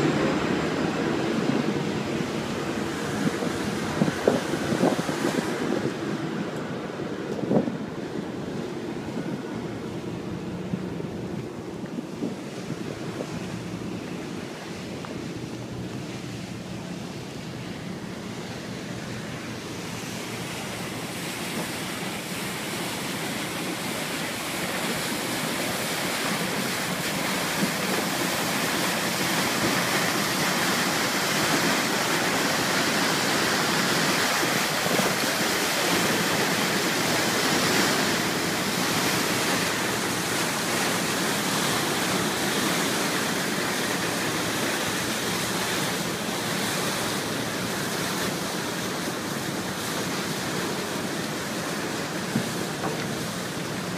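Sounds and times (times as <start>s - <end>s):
sea water rushing against hulls: 0.0s - 53.9s.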